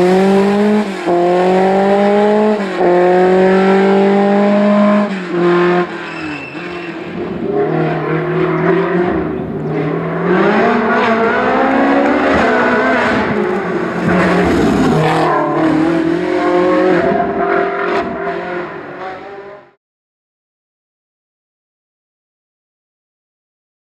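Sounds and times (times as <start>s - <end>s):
race car engine revving: 0.0s - 19.8s.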